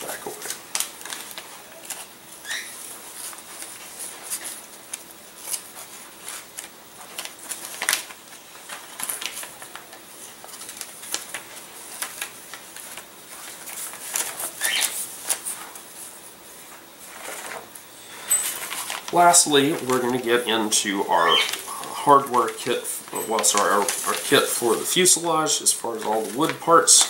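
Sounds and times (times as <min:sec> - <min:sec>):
plastic bag rustling and crinkling: 0:00.0 - 0:27.0.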